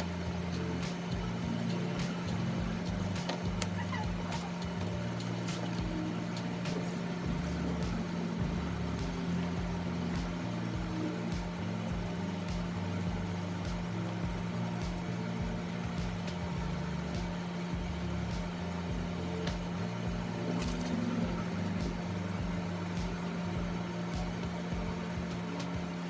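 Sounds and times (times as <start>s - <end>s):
electric motor humming: 0.0s - 26.0s.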